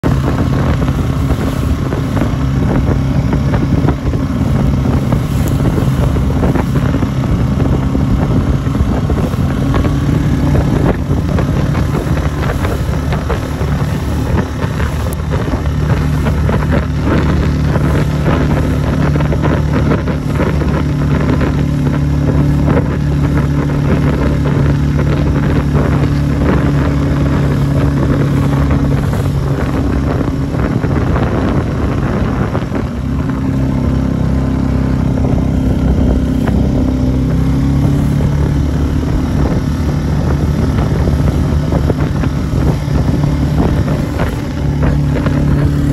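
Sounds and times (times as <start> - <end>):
outboard motor running: 0.0 - 45.9
water splashing against hull: 0.0 - 45.9
wind on microphone: 0.0 - 45.9.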